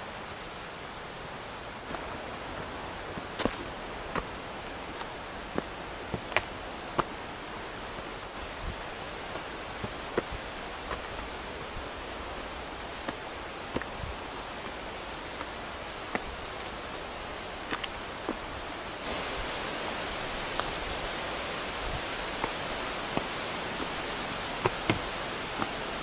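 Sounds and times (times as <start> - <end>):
flowing water rushing: 0.0 - 26.0
footsteps on rocky trail: 1.8 - 26.0.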